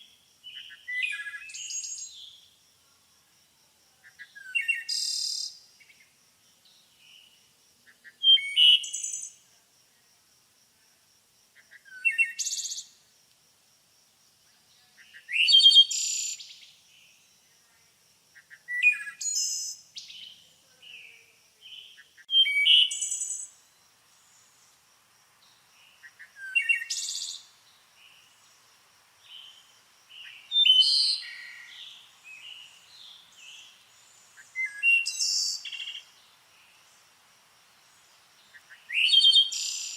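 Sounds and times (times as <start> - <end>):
songbird singing: 0.0 - 2.8, 3.8 - 10.1, 11.5 - 13.1, 14.1 - 39.9.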